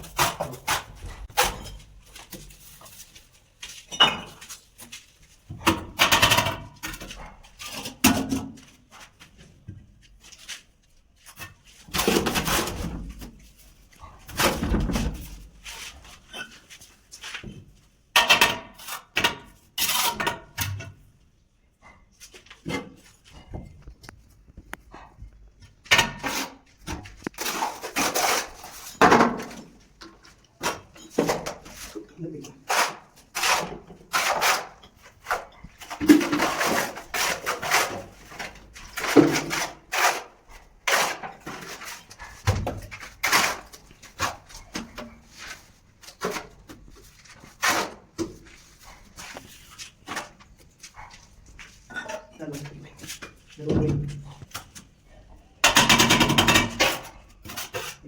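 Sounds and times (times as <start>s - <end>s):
tools scraping masonry: 0.0s - 58.0s.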